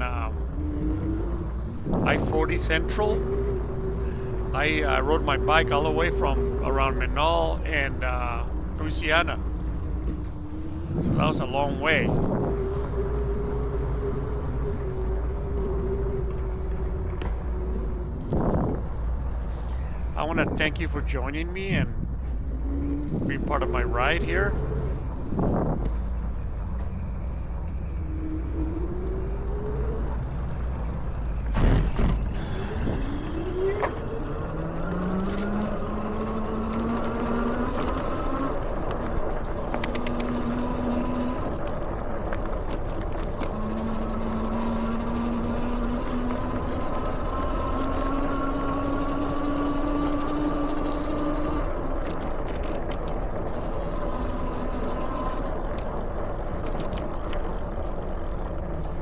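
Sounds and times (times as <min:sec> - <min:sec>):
electric bike motor whining: 0:00.0 - 0:20.7, 0:22.0 - 0:59.0
tyres rumbling: 0:00.0 - 0:59.0
wind: 0:00.0 - 0:59.0.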